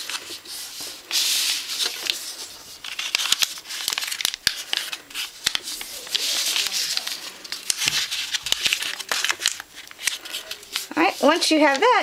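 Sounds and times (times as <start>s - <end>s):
paper rustling and sliding: 0.0s - 12.0s.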